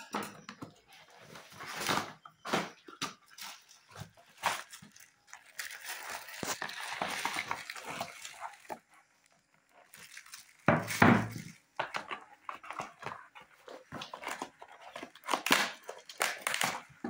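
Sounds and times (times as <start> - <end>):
cardboard and plastic rustling: 0.4 - 17.0.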